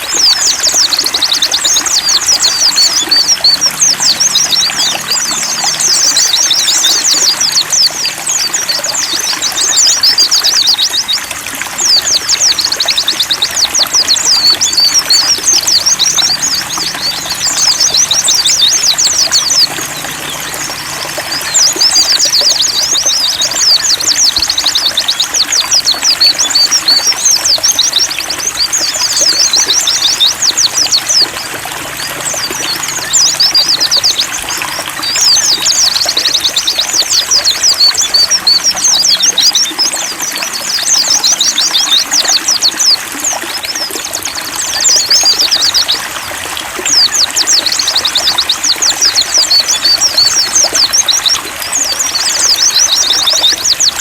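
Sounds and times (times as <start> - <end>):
bird chattering song: 0.0 - 54.0
running water trickling: 0.0 - 54.0.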